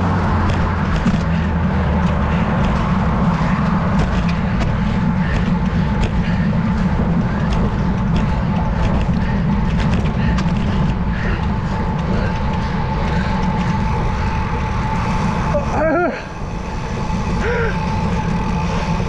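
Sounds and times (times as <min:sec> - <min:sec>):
bike rattles and clicks: 0:00.0 - 0:19.0
wind buffeting microphone: 0:00.0 - 0:19.0.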